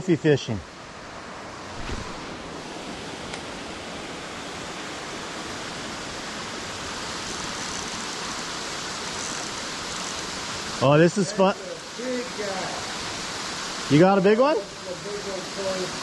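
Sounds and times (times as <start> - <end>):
waterfall rushing: 1.6 - 16.0.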